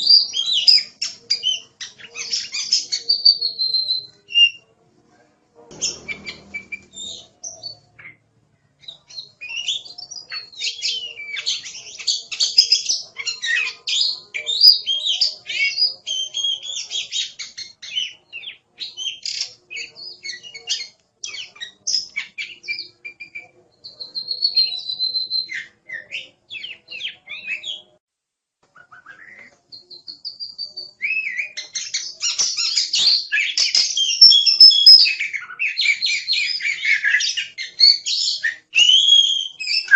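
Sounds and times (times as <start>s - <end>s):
bird singing whistles and chatter: 0.0s - 4.6s, 5.7s - 8.2s, 8.8s - 28.0s, 28.8s - 39.9s.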